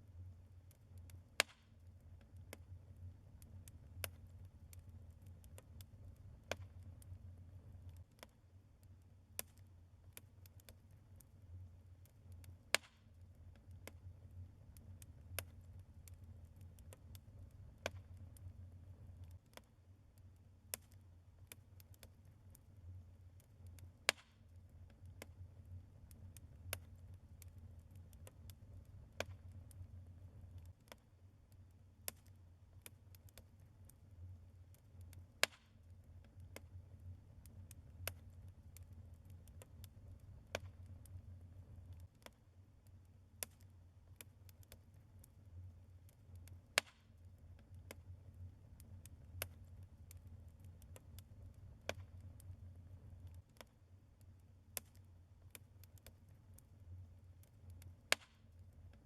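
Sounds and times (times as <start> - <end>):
logs crackling in fireplace: 0.0 - 59.0
low rumble of fire: 0.0 - 59.0
pops and snaps of fire: 0.7 - 11.4, 12.0 - 59.0.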